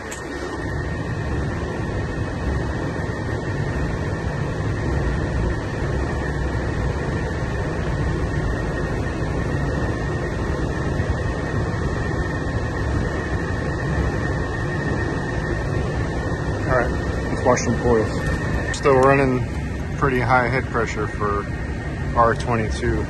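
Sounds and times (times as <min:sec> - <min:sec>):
air conditioning unit humming: 0:00.0 - 0:23.0.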